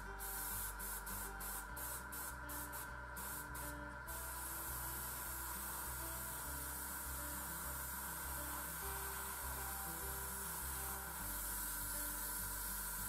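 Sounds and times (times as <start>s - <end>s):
airbrush air hiss: 0.0s - 13.0s.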